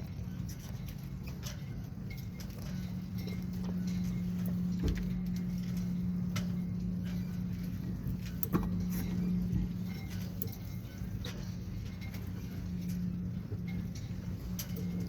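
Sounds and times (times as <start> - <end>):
light clicks and knocks: 0.0 - 15.0.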